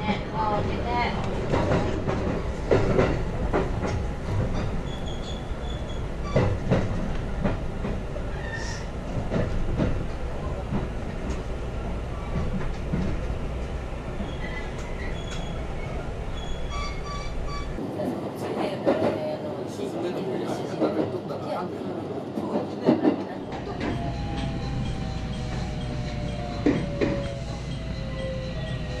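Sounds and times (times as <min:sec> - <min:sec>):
electric train rumbling: 0:00.0 - 0:29.0.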